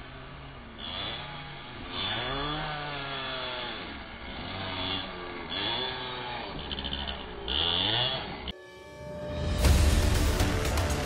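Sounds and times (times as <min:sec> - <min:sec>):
rc car motors whining: 0:00.0 - 0:09.8.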